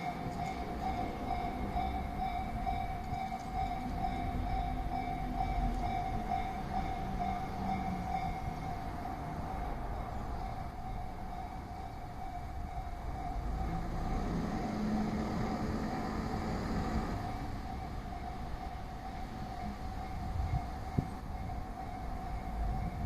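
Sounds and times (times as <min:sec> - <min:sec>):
diesel railcar rumble: 0:00.0 - 0:23.0
level-crossing warning bell: 0:00.0 - 0:23.0.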